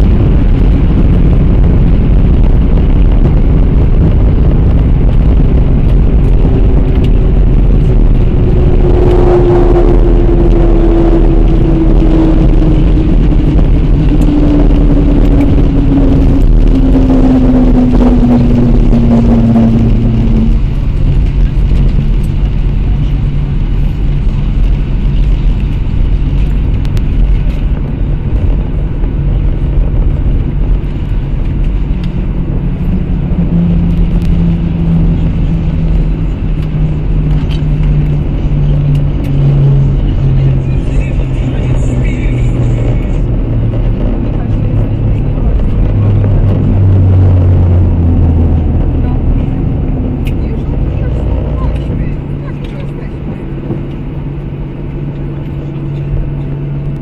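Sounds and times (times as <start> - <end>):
jet engine and wheel rumble: 0.0 - 57.0
jet engines whining down: 0.0 - 57.0.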